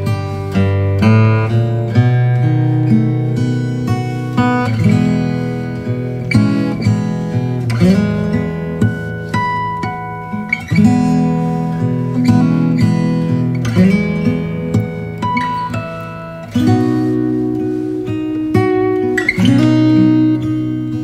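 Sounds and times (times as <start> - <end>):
acoustic guitar picked and strummed: 0.0 - 21.0.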